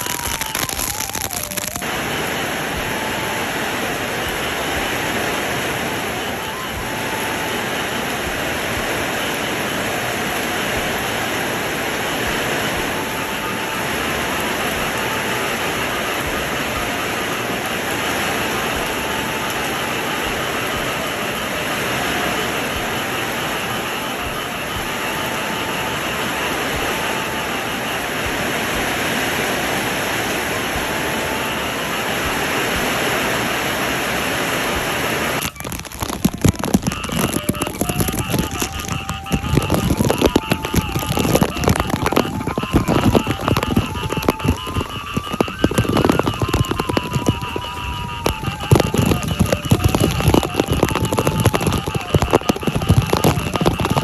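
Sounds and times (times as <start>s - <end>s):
bamboo flute held notes: 0.0s - 54.0s
dense rain: 0.0s - 54.0s.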